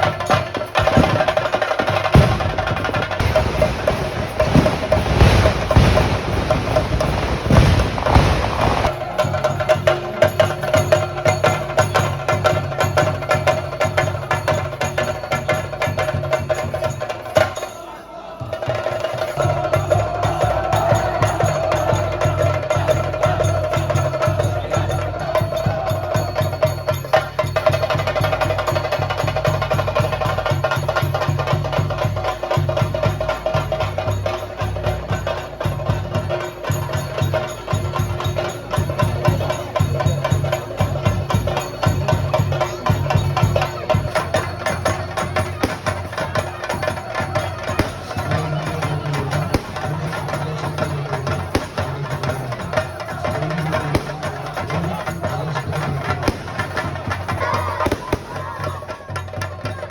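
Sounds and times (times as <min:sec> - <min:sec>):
rapid drumming: 0:00.0 - 0:17.5, 0:18.5 - 0:59.9.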